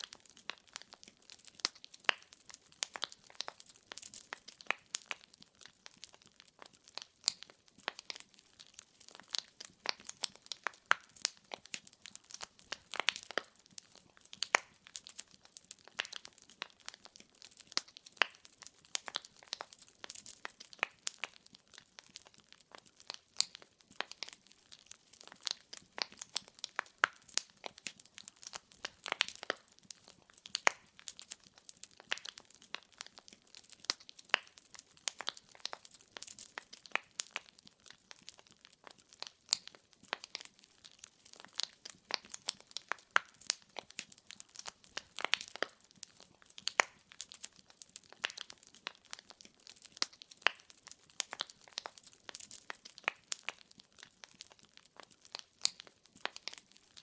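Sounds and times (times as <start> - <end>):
faint hiss of flames: 0.0 - 57.0
firewood crackling and popping: 0.0 - 57.0.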